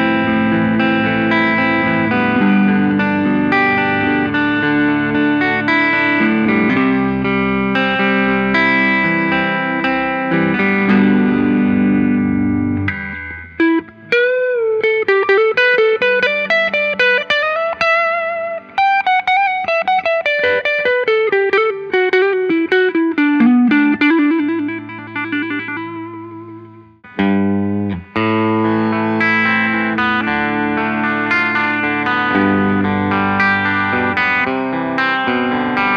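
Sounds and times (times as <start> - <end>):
electric guitar melody with bends: 0.0 - 35.9
electric guitar strummed chords: 0.0 - 35.9.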